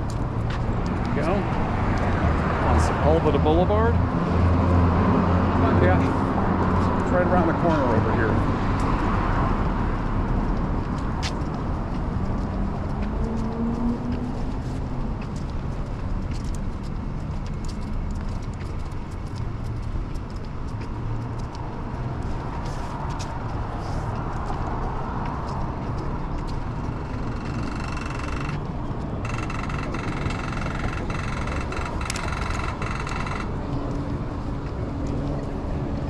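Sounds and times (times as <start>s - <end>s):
cars passing on busy road: 0.0s - 36.0s.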